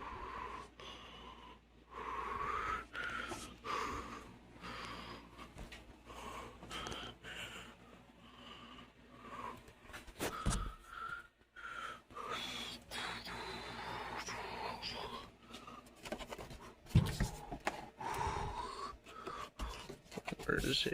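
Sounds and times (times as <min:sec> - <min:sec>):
heavy wheezy breathing: 0:00.0 - 0:20.4.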